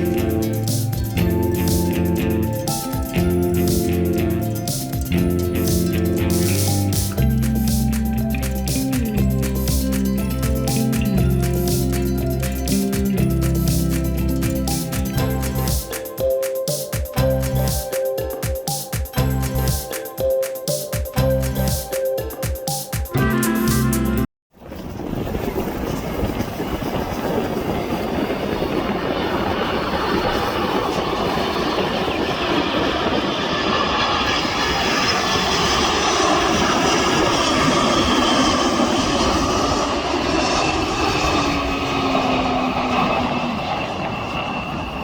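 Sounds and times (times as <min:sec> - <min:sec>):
jet engines roaring: 0:00.0 - 0:18.3, 0:25.0 - 0:45.0
jet engine whine: 0:00.0 - 0:19.0, 0:21.9 - 0:45.0.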